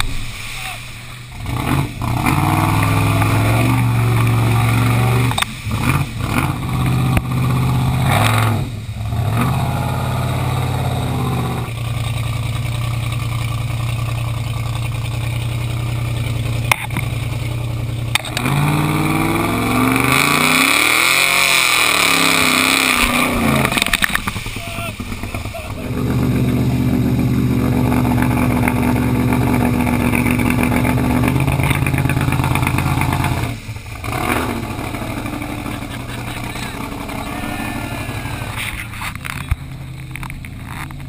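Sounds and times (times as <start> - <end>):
mud and water spray hiss: 0.0 - 11.0, 15.0 - 40.7
truck engine running under load: 2.0 - 20.2, 21.2 - 41.0.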